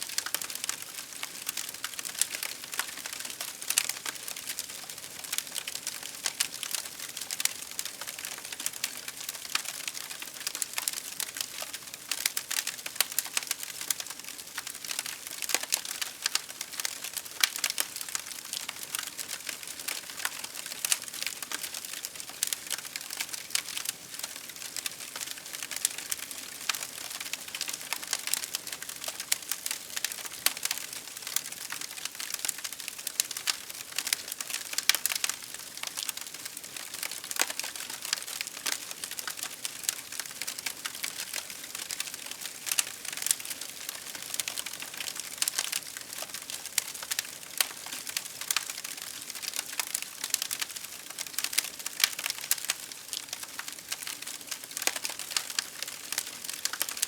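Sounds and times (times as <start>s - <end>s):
soft steady hiss: 0.0s - 57.0s
fire crackling and popping: 0.1s - 57.0s.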